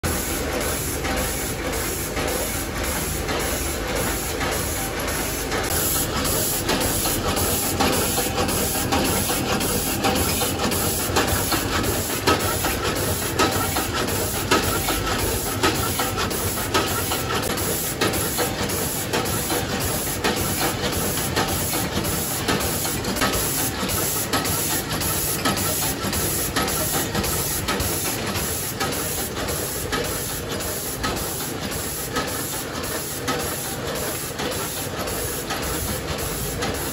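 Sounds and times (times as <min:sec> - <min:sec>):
packaging machine clicking and clacking: 0:00.1 - 0:36.9.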